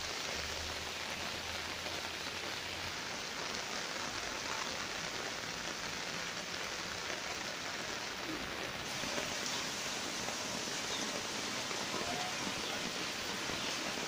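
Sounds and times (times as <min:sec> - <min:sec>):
steady rain on plants: 0:00.0 - 0:14.0.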